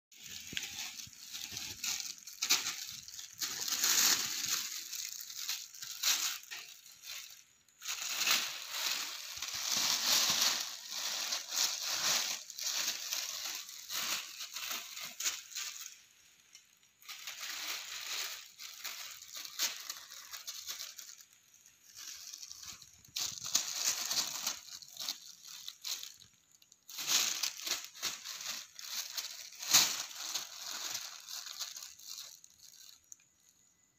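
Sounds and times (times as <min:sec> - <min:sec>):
plastic bag crinkling: 0:00.1 - 0:33.8.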